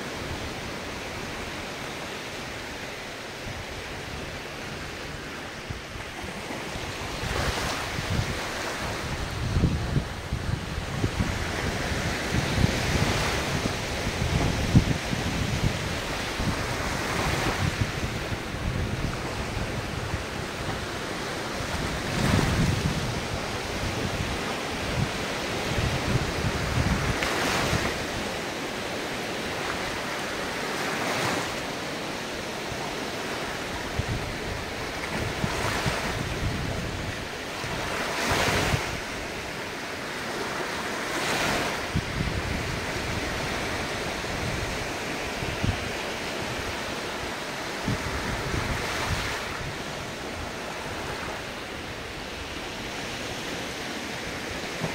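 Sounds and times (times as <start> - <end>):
ocean waves breaking: 0.0 - 54.9
wind rumble on microphone: 0.0 - 54.9.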